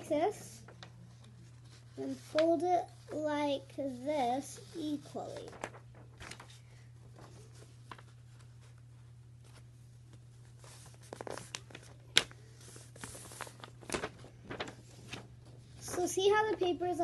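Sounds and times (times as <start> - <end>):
paper being folded and creased: 0.0 - 17.0.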